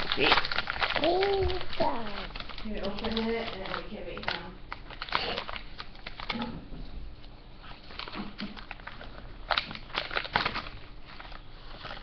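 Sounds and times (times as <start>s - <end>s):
plastic packet crinkling: 0.0s - 6.5s, 7.2s - 12.0s.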